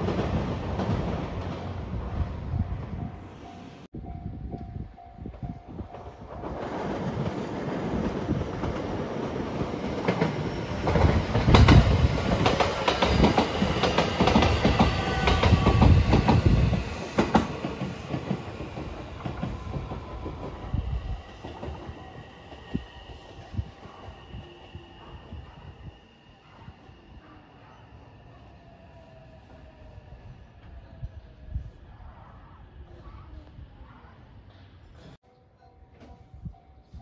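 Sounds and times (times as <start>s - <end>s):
electric train passing: 0.0s - 36.9s.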